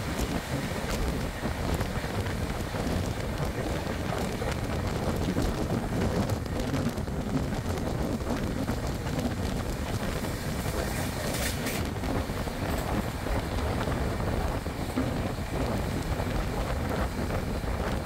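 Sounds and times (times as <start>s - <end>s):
train wheels rumbling on track: 0.0s - 18.0s
wind buffeting microphone: 0.0s - 18.0s.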